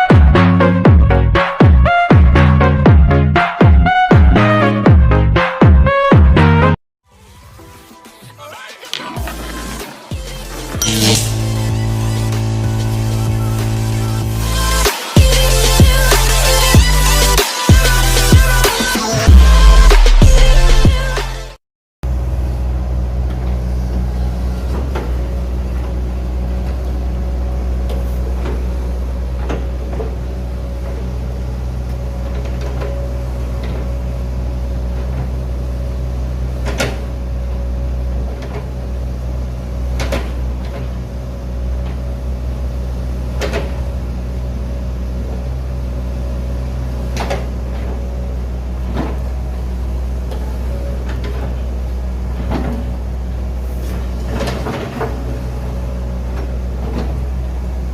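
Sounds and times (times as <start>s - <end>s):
excavator diesel engine running: 8.3s - 20.2s, 22.0s - 57.9s.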